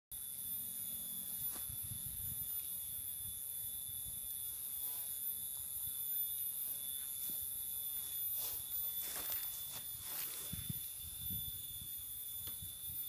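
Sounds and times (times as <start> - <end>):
high-pitched whine: 0.1 - 13.0.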